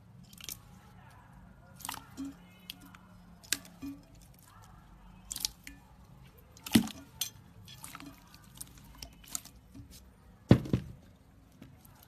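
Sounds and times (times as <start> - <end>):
slime squish: 0.0 - 12.0.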